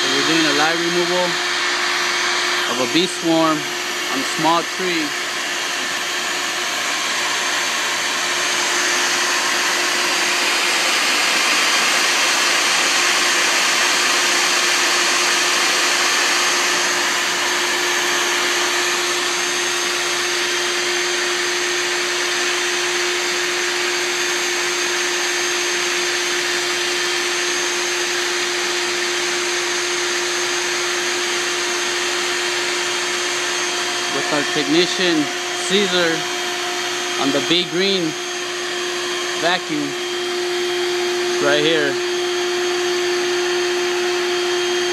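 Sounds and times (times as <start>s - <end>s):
vacuum motor hum with suction hiss: 0.0s - 44.9s.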